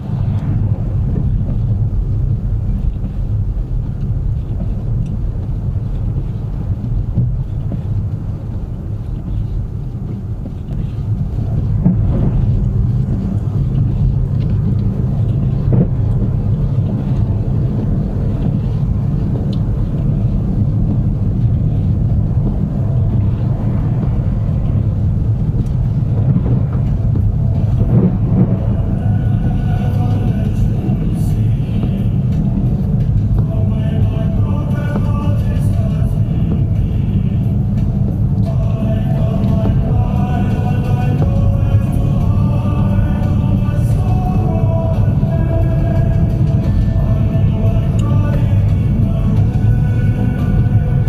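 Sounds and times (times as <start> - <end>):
car road and tyre rumble: 0.0 - 51.0.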